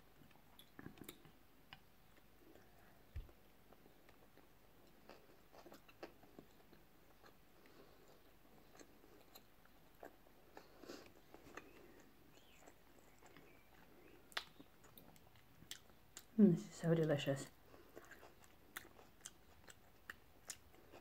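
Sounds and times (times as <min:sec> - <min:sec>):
chewing mouth clicks and smacks: 0:00.2 - 0:16.3, 0:17.8 - 0:21.0.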